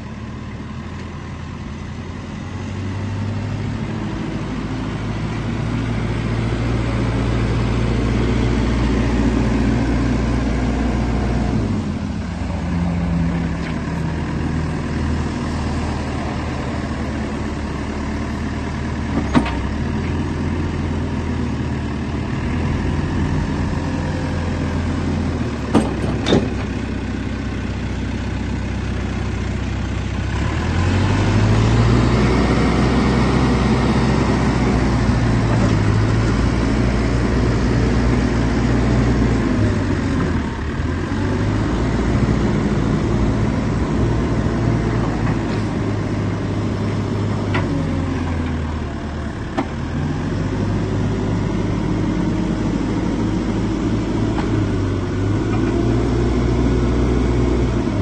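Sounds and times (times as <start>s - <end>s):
diesel engine idling: 0.0s - 58.0s
engine revving with hydraulics: 2.4s - 27.2s, 30.0s - 58.0s.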